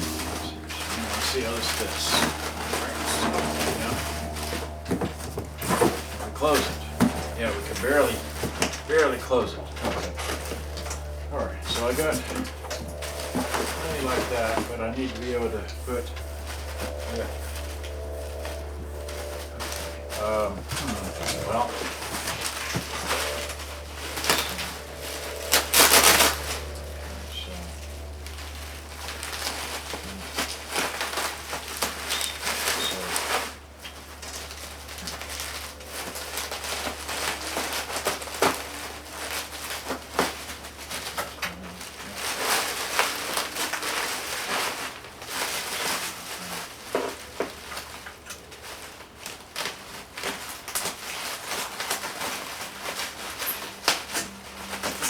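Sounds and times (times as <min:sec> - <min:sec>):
bubble wrap crinkling: 0:00.0 - 0:55.0.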